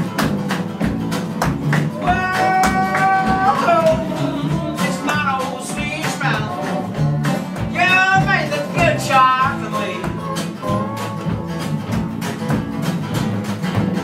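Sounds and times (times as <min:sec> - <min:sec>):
acoustic guitars picked rhythm: 0:00.0 - 0:14.0
slide guitar gliding notes: 0:01.6 - 0:14.0.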